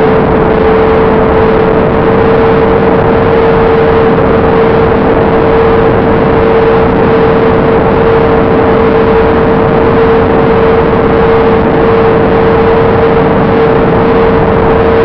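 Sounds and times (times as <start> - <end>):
airflow rushing: 0.0 - 15.0
model plane motor whine: 0.0 - 15.0.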